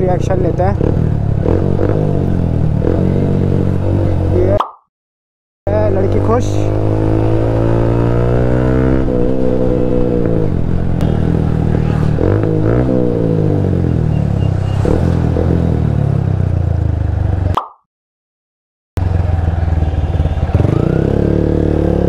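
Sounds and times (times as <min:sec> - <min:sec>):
motorcycle engine revving: 0:00.0 - 0:04.5, 0:05.7 - 0:17.5, 0:19.0 - 0:22.0.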